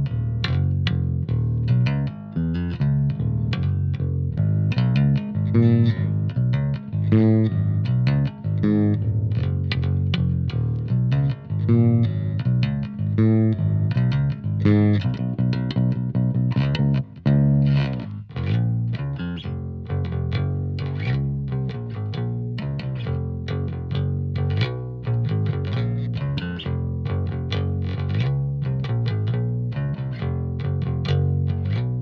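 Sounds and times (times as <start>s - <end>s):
electric bass plucked fingerstyle: 0.0s - 32.0s.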